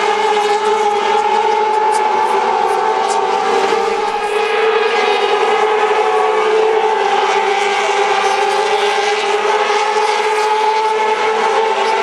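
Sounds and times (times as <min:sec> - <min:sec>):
racing motorcycle engines droning: 0:00.0 - 0:12.0.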